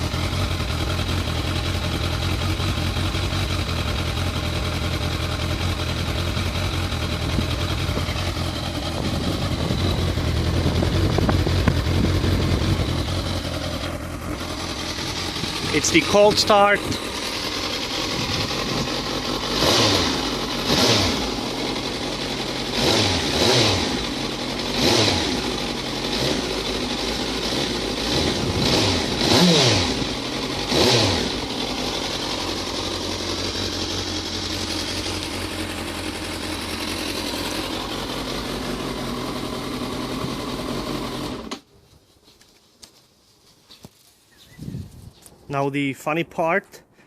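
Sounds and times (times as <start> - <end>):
motorcycle engine idling and revving: 0.0 - 41.7.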